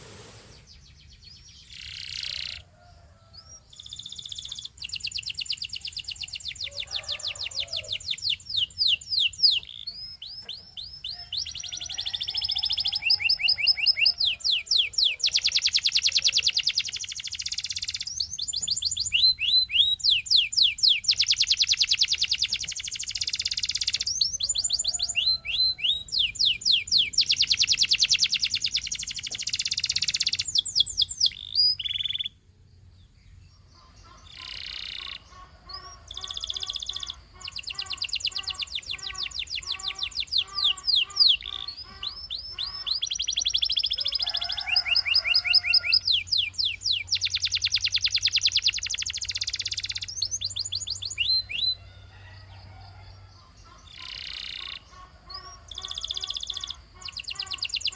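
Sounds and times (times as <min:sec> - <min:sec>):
canary singing trills: 0:00.5 - 0:57.9.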